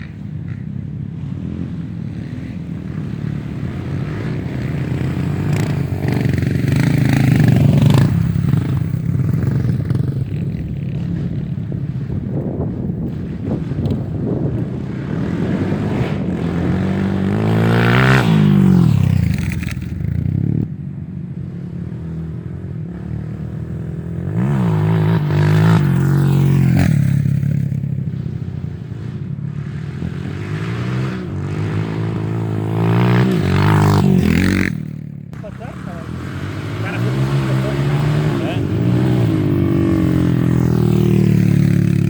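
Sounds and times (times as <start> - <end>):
motorcycle engines revving: 0.0 - 42.0.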